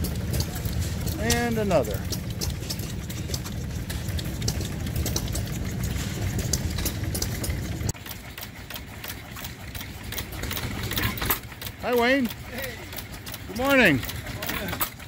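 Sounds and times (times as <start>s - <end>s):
engine ticking: 0.0s - 15.0s
fast clicks: 0.0s - 15.0s
small engines droning: 0.0s - 15.0s.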